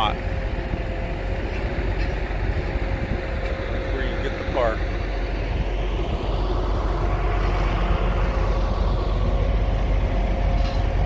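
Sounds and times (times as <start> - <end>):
road traffic engine and tyre noise: 0.0 - 11.0.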